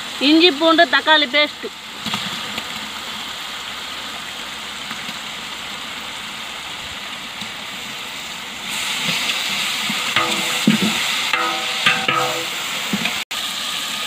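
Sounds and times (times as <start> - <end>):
masala sizzling in hot oil: 0.0 - 14.0.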